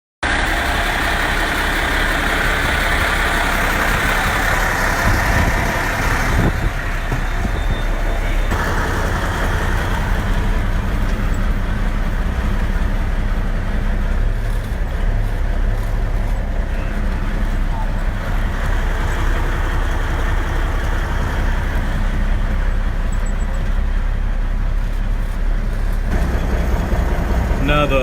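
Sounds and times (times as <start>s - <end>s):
vehicle engine rumble: 0.2s - 28.0s.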